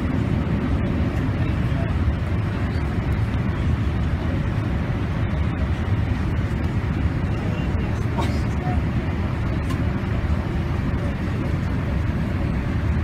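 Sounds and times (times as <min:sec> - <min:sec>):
airplane cabin engine noise: 0:00.0 - 0:13.0.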